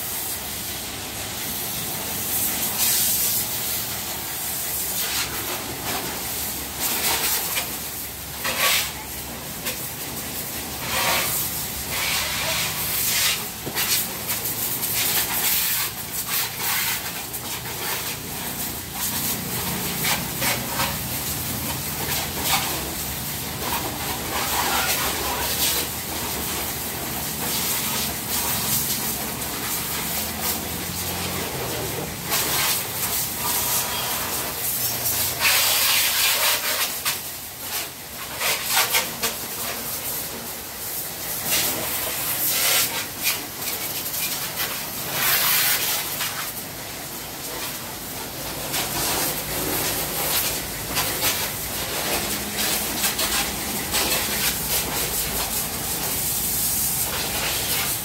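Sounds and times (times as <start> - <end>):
pressure washer spraying: 0.0 - 58.0.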